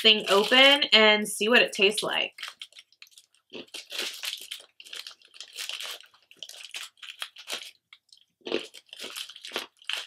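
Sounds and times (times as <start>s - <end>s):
plastic snack packet crinkling: 0.0s - 0.9s, 2.2s - 10.0s.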